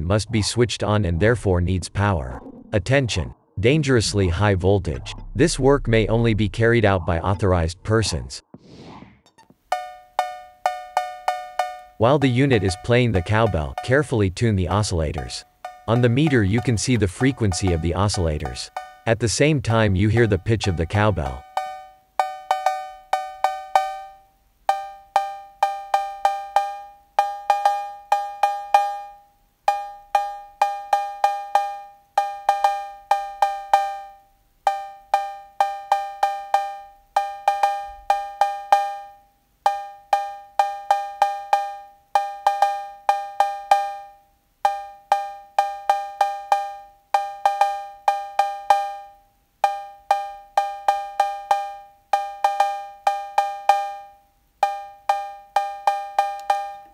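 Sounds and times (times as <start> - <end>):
electronic cowbell pattern: 9.3 - 56.9.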